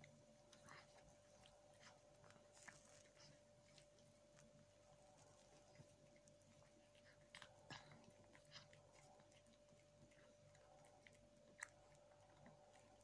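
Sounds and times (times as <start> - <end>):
cat chewing food: 0.0 - 13.0
faint steady hum: 0.0 - 13.0.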